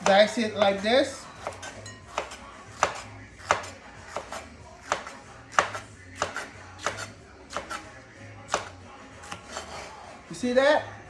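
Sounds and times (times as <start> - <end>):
knife chopping on cutting board: 0.0 - 7.9, 8.5 - 9.9.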